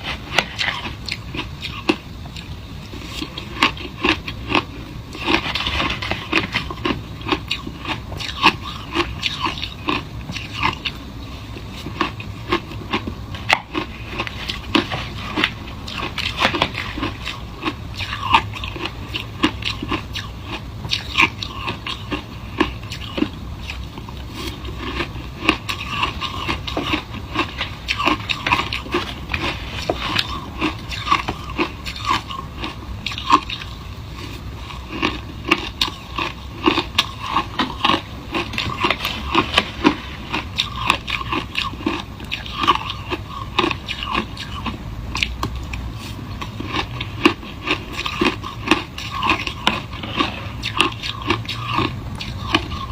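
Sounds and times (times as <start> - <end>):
person chewing shaved ice: 0.0 - 52.9.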